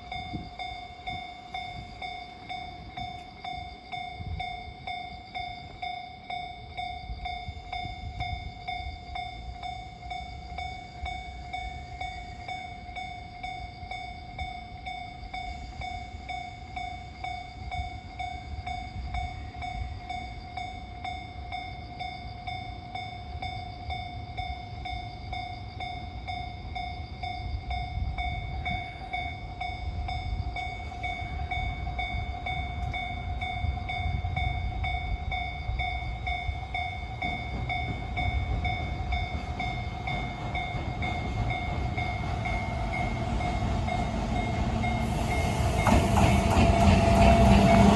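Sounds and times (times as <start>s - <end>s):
freight train rumble: 0.0s - 47.9s.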